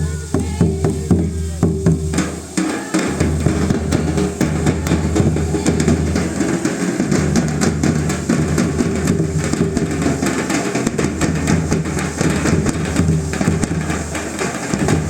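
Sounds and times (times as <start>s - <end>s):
drums beaten in quick rhythm: 0.0s - 15.0s.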